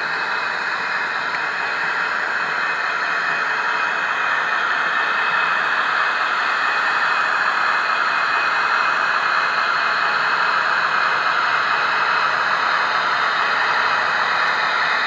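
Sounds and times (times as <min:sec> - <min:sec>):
model train whirring: 0:00.0 - 0:15.0.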